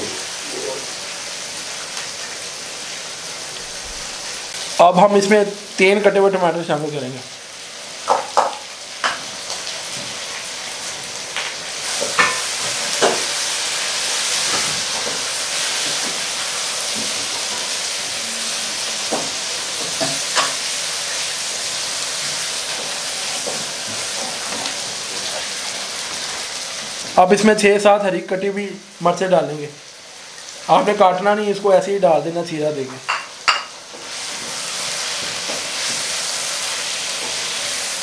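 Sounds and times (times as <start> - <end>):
food sizzling in a wok: 0.0 - 38.0.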